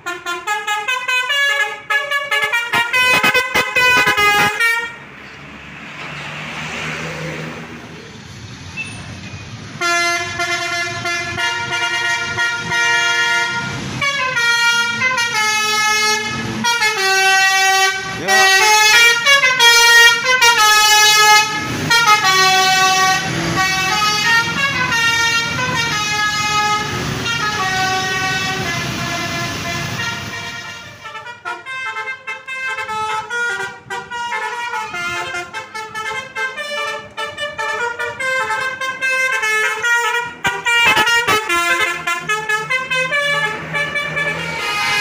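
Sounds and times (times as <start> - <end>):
bus air horns playing melody: 0.0 - 5.1, 9.7 - 45.0.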